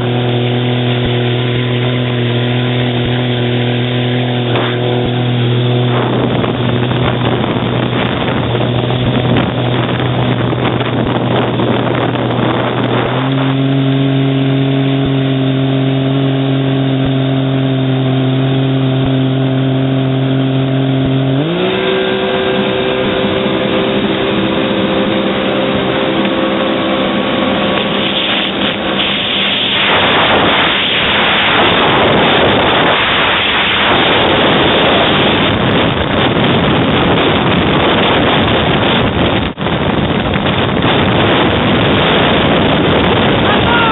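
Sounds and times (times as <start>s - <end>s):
jet ski engine: 0.0s - 43.9s
water rushing: 0.0s - 43.9s
wind: 0.0s - 43.9s.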